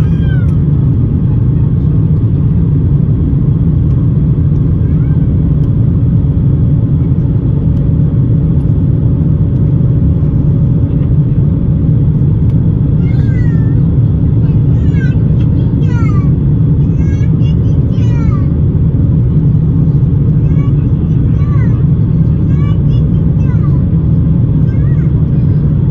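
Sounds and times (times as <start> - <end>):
airliner cabin engine rumble: 0.0 - 25.9.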